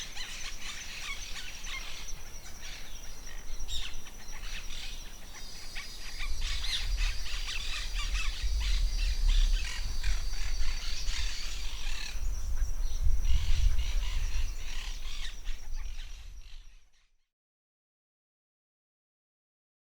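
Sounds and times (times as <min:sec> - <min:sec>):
forest birds chirping: 0:00.0 - 0:17.2.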